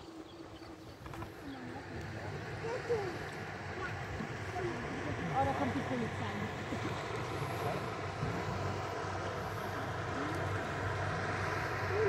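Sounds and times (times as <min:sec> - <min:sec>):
motor boat engine drone: 0:00.0 - 0:12.0
outdoor noise: 0:00.0 - 0:12.0.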